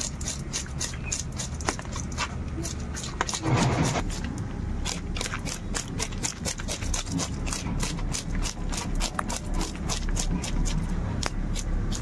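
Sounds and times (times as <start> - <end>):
knife scraping fish scales: 0.0 - 12.0.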